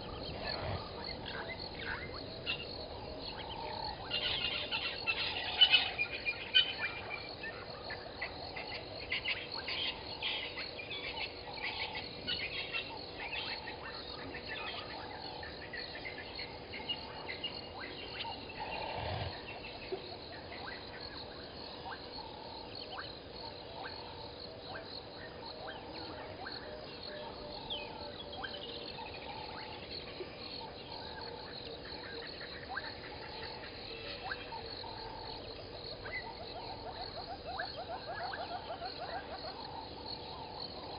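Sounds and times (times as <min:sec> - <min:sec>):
frogs and insects chirping: 0:00.0 - 0:40.9.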